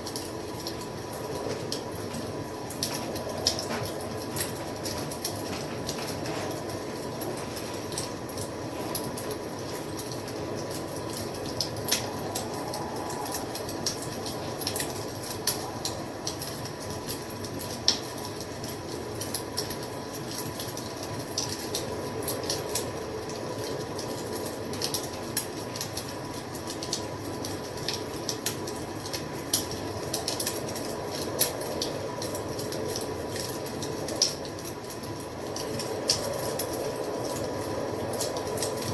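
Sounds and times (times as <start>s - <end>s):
wood fire popping and snapping: 0.0s - 38.9s.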